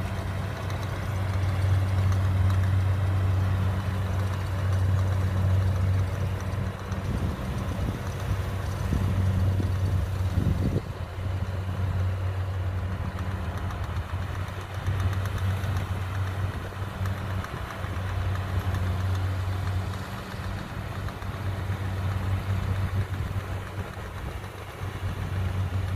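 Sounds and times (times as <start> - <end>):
combine harvester engine humming: 0.0 - 25.9.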